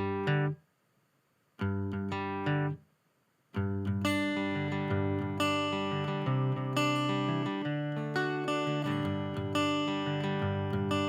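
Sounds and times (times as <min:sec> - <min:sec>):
acoustic guitar strumming: 0:00.0 - 0:00.6, 0:01.6 - 0:02.8, 0:03.6 - 0:11.0.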